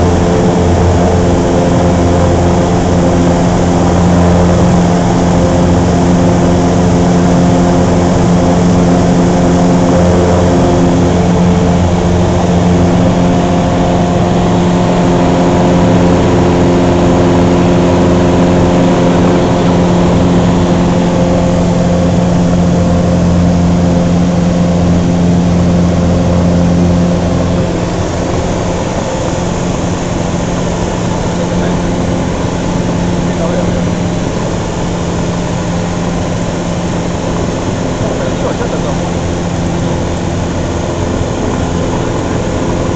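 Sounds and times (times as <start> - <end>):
aircraft engine and propeller drone: 0.0 - 42.9.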